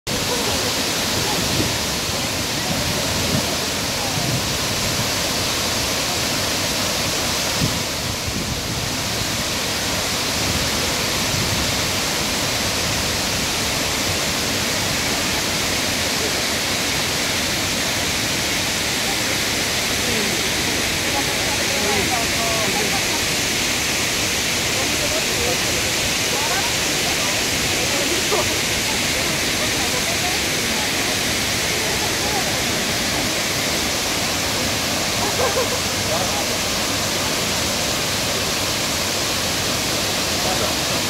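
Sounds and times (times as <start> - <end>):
waterfall rushing: 0.1 - 41.0.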